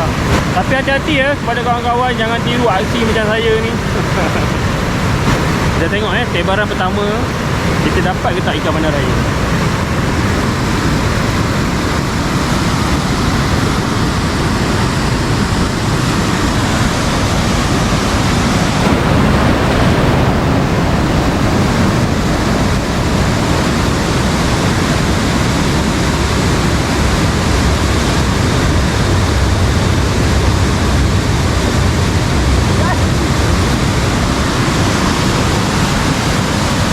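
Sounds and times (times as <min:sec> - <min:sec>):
fast-flowing river rushing: 0:00.0 - 0:36.9.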